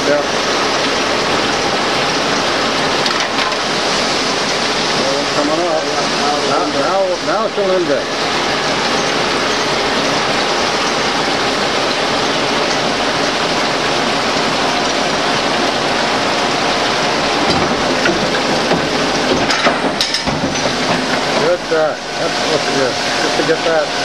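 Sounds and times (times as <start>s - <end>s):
automatic lathe running: 0.0s - 24.0s
cutting oil splashing: 0.0s - 24.0s.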